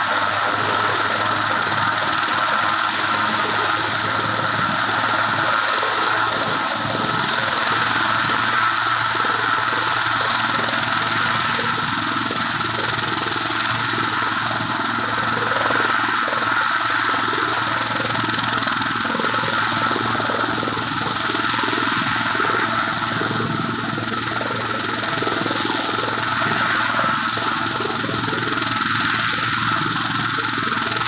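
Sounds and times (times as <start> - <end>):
helicopter engine and rotor: 0.0 - 31.0.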